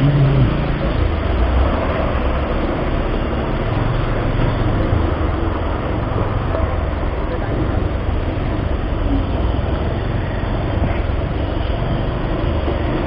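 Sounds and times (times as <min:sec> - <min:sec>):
bus engines: 0:00.0 - 0:13.0
road noise: 0:00.0 - 0:13.0.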